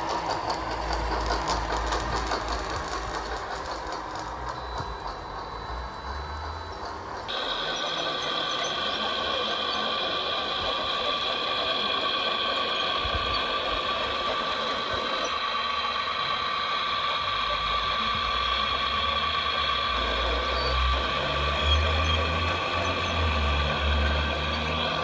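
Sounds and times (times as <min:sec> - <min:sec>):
hydraulic pump whining: 0:00.0 - 0:25.0.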